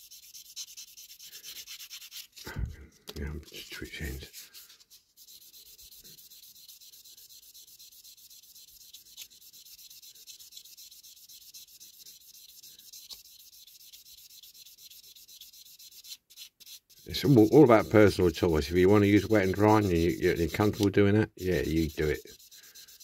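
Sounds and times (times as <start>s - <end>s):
sanding pad rubbing plastic: 0.0s - 2.5s, 4.0s - 23.0s.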